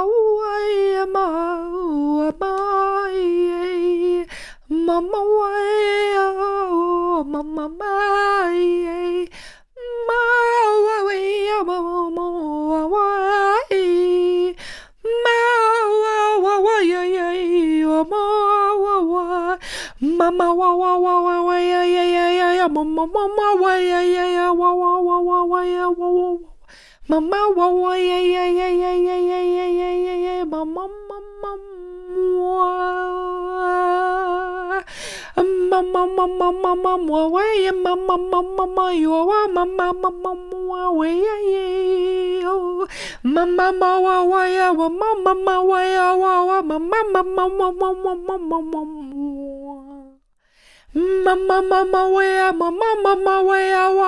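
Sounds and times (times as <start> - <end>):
woman singing wordless notes: 0.0 - 50.2, 50.9 - 54.0.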